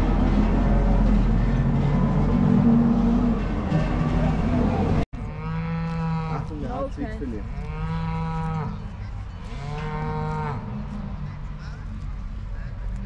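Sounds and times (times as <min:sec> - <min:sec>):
cow mooing: 0:00.0 - 0:12.0.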